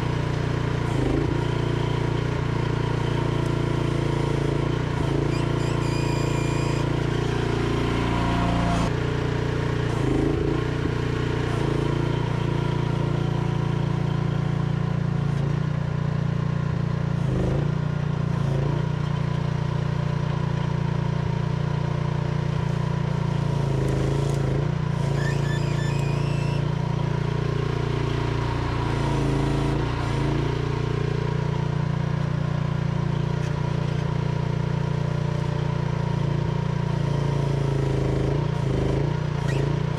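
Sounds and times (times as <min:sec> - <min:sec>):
micro excavator engine running: 0:00.0 - 0:39.9.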